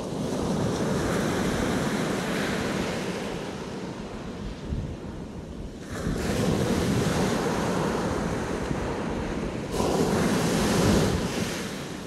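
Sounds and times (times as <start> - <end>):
small waves breaking on beach: 0.0 - 12.0
wind rumble on microphone: 0.0 - 12.0.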